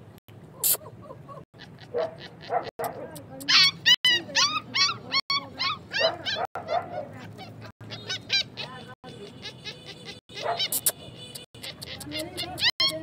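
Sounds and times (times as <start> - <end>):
puppy yelping and whining: 0.5 - 8.9, 10.1 - 11.0, 11.6 - 13.0.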